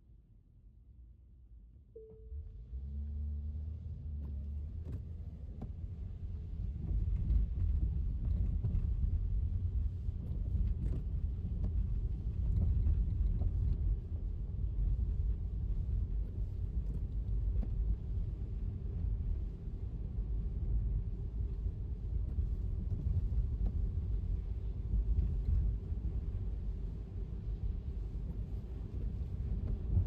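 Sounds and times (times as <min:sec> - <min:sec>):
car tyres on wet road: 0:02.3 - 0:30.0.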